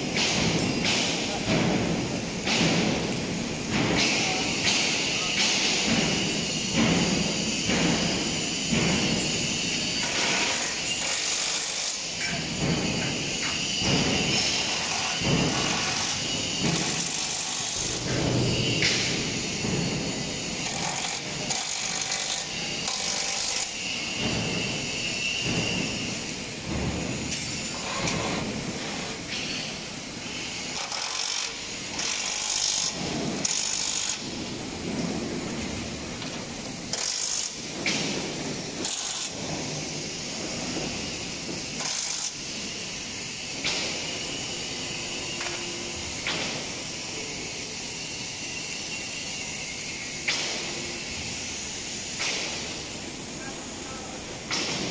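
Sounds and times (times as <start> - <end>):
tool and metal clatter: 0.0 - 44.5
power tool hissing bursts: 3.2 - 35.0, 36.8 - 52.9.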